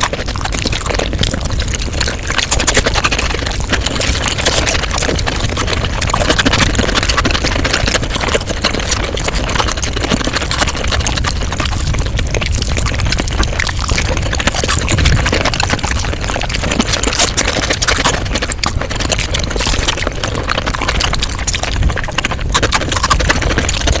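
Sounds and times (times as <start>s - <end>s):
rapid chewing mouth clicks: 0.0s - 24.0s.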